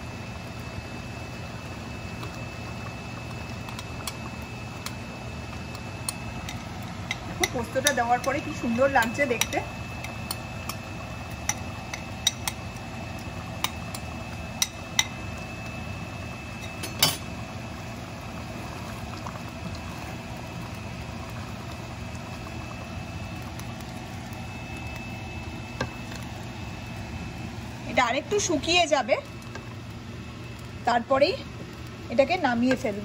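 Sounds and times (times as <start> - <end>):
sauce bubbling in a pot: 0.0 - 33.0.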